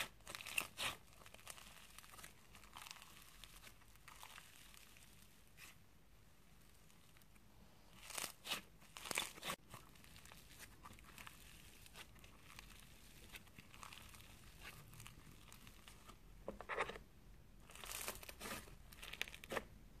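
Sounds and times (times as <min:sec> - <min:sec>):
slime crackling and crunching: 0:00.0 - 0:05.8, 0:06.6 - 0:16.3, 0:17.6 - 0:19.8
slime squishing: 0:00.0 - 0:05.8, 0:06.5 - 0:17.0, 0:17.6 - 0:19.8.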